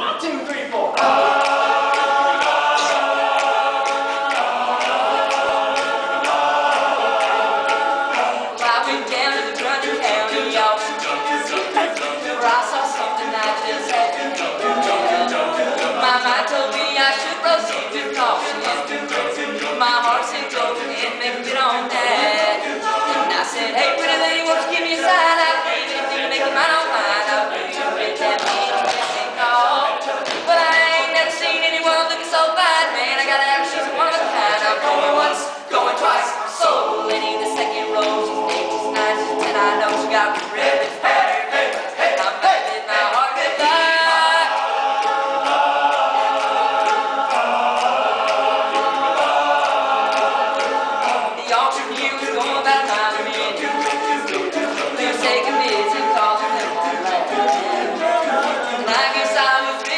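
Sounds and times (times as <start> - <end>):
male a cappella group singing: 0.0 - 59.9.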